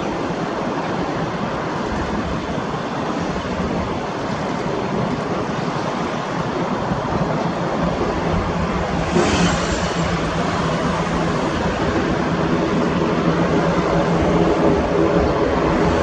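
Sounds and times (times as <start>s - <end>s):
jet engines rumbling hiss: 0.0s - 16.0s.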